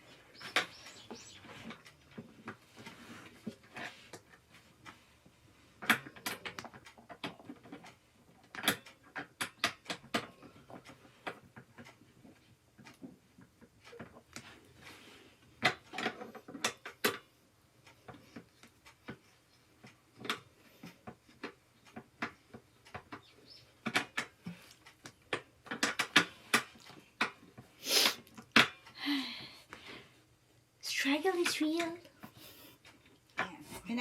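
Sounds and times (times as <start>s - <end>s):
chair parts clicking and knocking: 0.0s - 5.1s, 5.7s - 29.0s.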